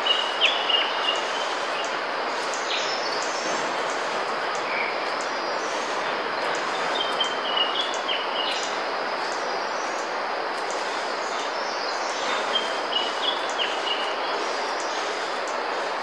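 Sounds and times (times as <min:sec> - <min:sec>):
bird chirping: 0:00.0 - 0:10.0, 0:10.7 - 0:15.2
steady hiss: 0:00.0 - 0:16.0.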